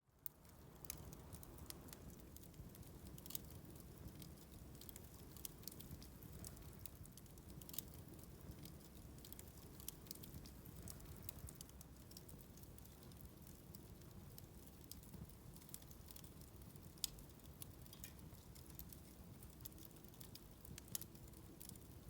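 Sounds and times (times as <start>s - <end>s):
bonfire crackling: 0.1s - 22.0s.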